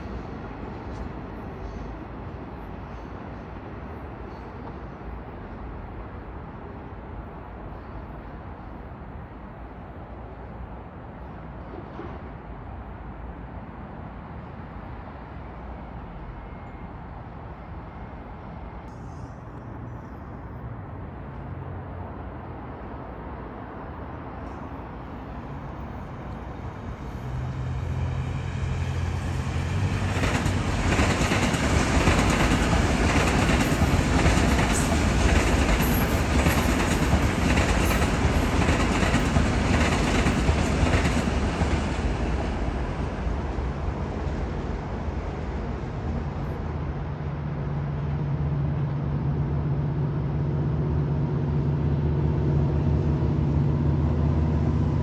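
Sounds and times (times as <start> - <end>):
electric train passing: 0.0 - 55.0.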